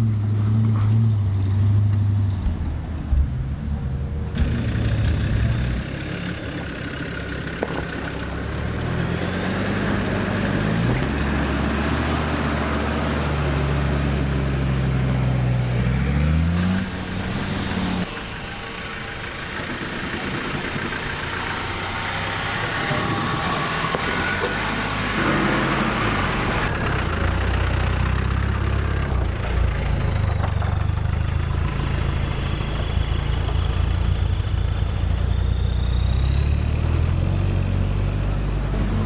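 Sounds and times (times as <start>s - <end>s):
engine running under load: 0.0s - 39.0s.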